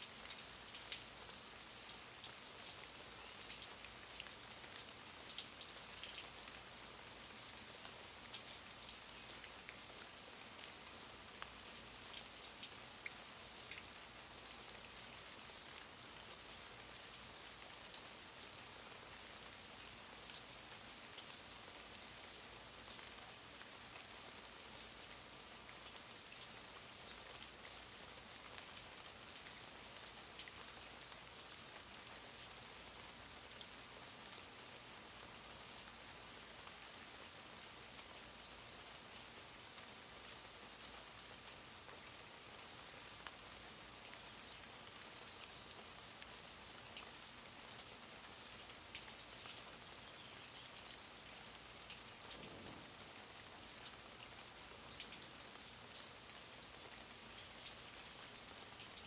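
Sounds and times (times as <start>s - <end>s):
light rain falling: 0.0s - 59.0s.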